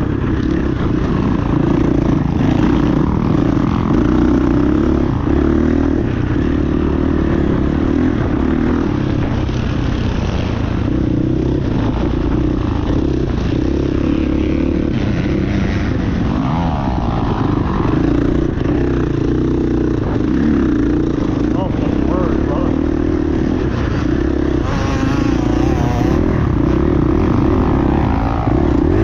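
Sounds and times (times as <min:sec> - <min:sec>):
motocross bike engines revving: 0:00.0 - 0:29.0.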